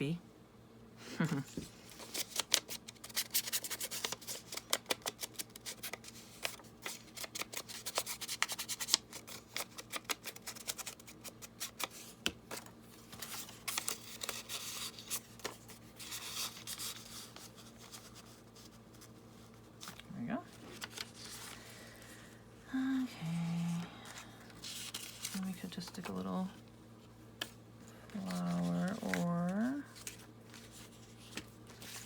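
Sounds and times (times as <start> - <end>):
paper crackling: 1.9 - 22.0, 23.7 - 26.6, 27.4 - 32.0.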